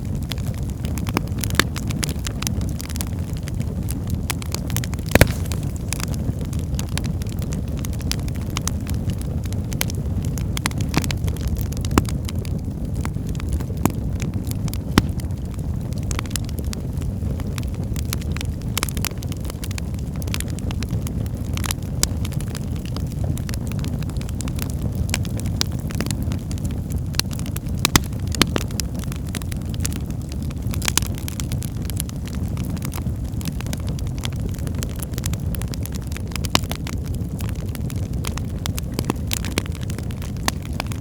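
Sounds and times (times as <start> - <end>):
fireplace fire crackling: 0.6 - 41.0.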